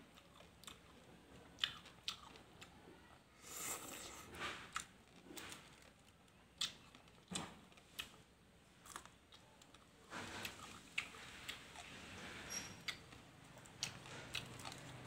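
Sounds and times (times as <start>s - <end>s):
chewing crunchy salad: 0.1s - 2.7s, 3.4s - 8.2s, 8.8s - 15.0s.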